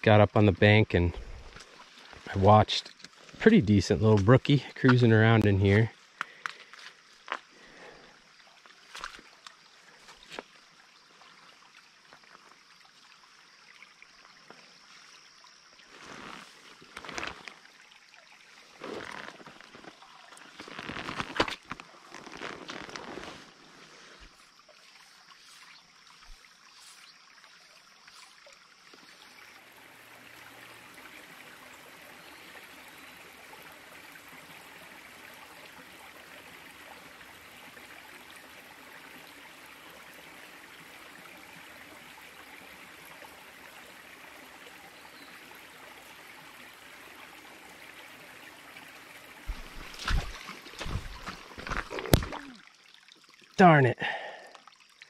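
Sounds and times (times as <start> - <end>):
stream trickling over rocks: 0.0 - 55.0.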